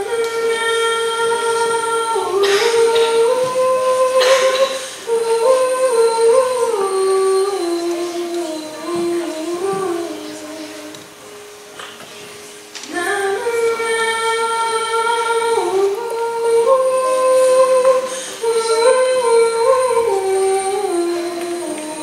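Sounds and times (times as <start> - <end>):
woman singing slow melody: 0.0 - 11.2, 12.8 - 22.0.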